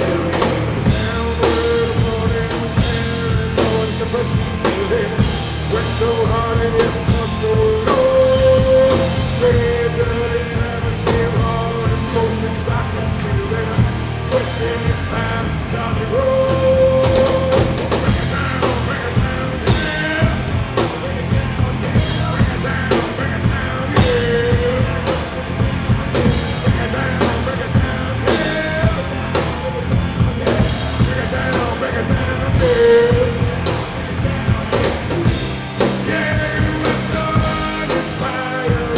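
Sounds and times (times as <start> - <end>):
drum kit beat: 0.0 - 38.9
rock music: 0.0 - 38.9.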